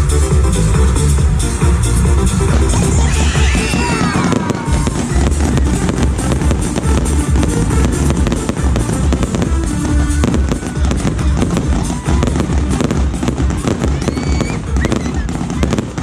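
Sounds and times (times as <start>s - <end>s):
loud music with pulsing bass: 0.0s - 16.0s
fireworks bursting and crackling: 2.2s - 16.0s.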